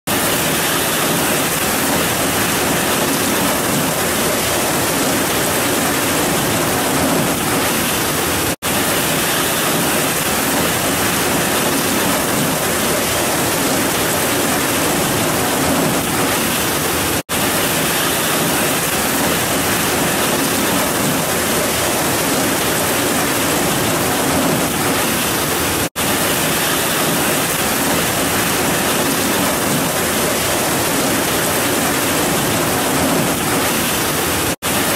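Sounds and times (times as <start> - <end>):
heavy rain hissing: 0.1 - 34.9.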